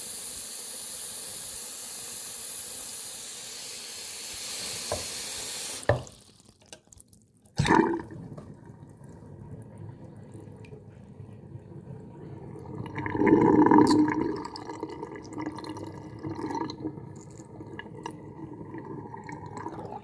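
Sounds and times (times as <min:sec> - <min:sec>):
sink water draining gurgling: 0:00.0 - 0:06.8, 0:07.6 - 0:20.0.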